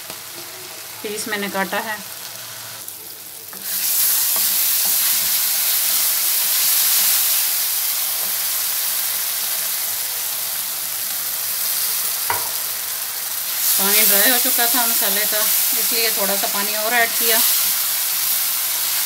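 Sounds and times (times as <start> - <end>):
masala sizzling in a wok: 0.0 - 19.0.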